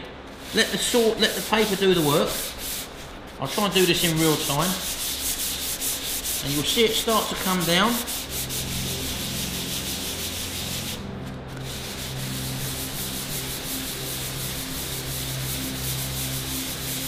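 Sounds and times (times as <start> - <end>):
sandpaper rasping strokes: 0.3 - 17.0.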